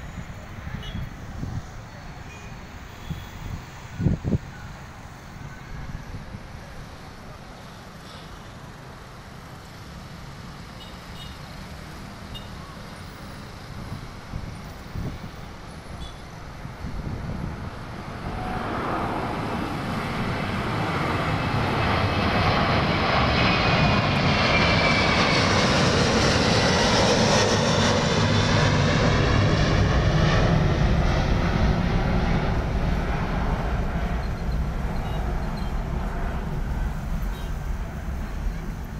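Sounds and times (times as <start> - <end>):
faint road traffic: 0.0 - 38.9
jet airliner flying overhead: 0.0 - 38.9.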